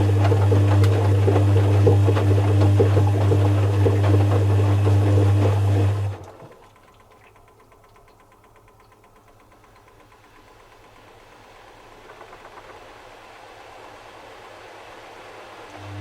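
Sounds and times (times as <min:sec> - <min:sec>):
washing machine clatter: 0:00.0 - 0:13.2
washing machine humming: 0:00.0 - 0:16.0.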